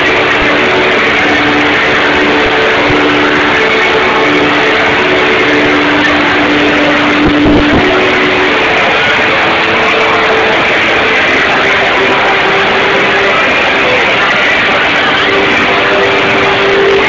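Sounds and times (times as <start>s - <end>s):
dense crowd din: 0.0s - 17.0s
music with held notes: 0.0s - 17.0s.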